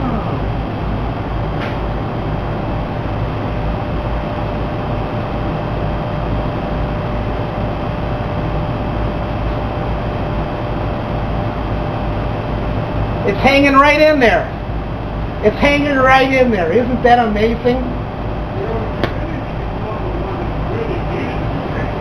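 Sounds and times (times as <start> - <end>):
air rushing from hvac: 0.0 - 22.0
thin steady hum: 0.0 - 22.0.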